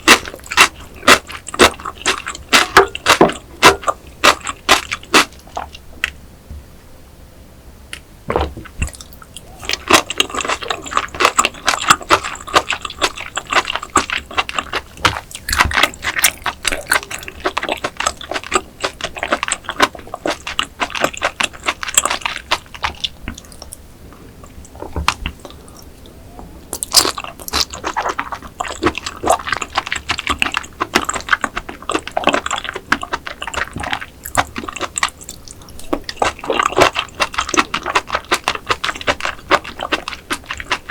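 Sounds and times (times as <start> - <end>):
wet crunchy chewing: 0.0 - 6.2, 8.3 - 40.9.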